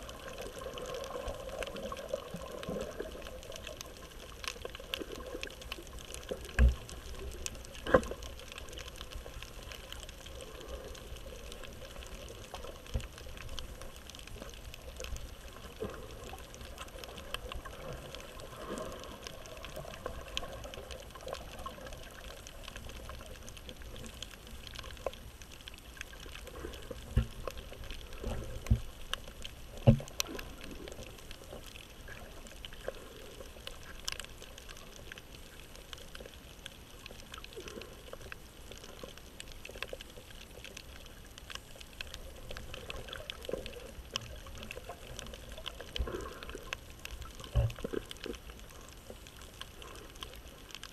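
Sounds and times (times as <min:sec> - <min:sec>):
muffled underwater noise: 0:00.0 - 0:50.9
sharp clicks underwater: 0:00.0 - 0:50.9.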